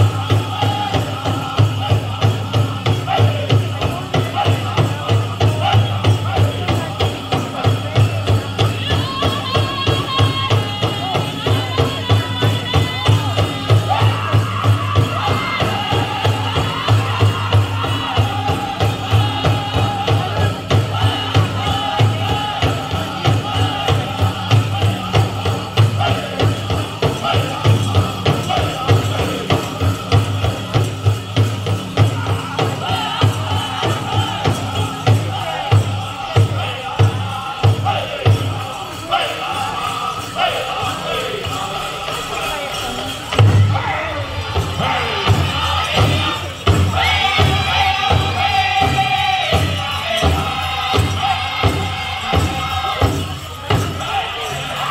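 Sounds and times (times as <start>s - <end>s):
large drum steady beat: 0.0s - 54.9s
voices singing in unison: 0.0s - 54.9s.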